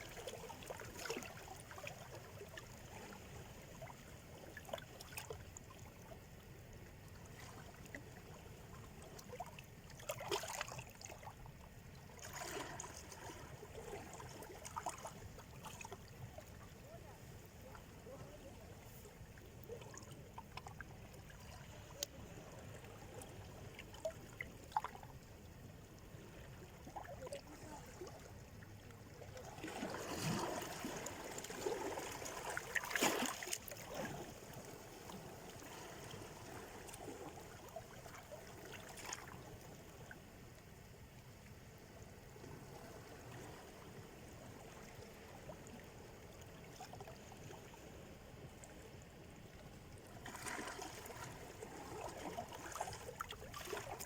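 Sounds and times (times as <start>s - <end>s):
small water splashes: 0.0s - 40.2s, 42.7s - 54.0s
small waves lapping on shore: 0.0s - 54.0s.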